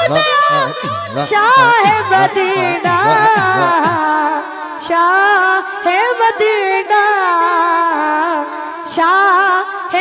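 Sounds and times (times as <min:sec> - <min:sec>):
boy singing into a microphone: 0:00.0 - 0:10.0.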